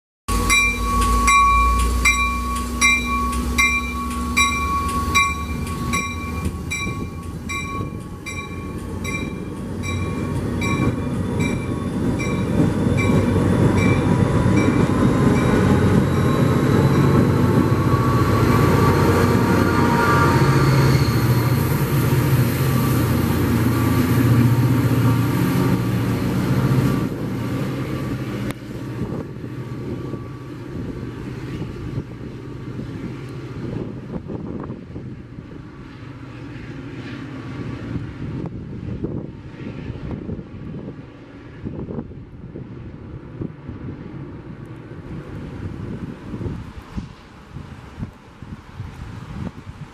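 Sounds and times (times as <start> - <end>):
passenger train passing: 0.3 - 49.9.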